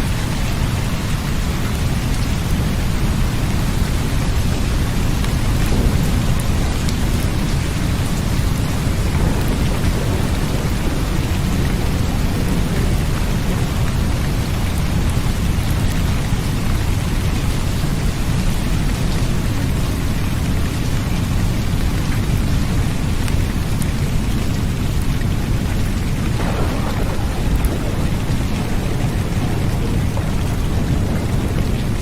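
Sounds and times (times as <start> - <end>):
rain hissing: 0.0 - 32.0
raindrop patter: 0.0 - 32.0
deep rumble: 2.5 - 20.6, 24.1 - 32.0.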